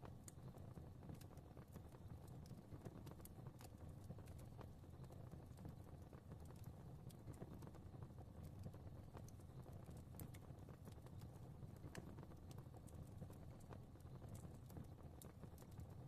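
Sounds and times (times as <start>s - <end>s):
fire crackling: 0.0s - 16.0s
low rumble of flames: 0.0s - 16.0s.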